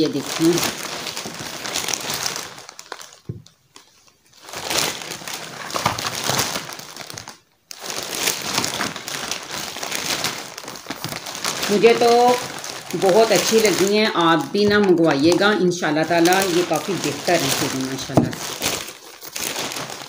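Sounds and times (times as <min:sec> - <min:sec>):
plastic bag rustling: 0:00.0 - 0:20.0.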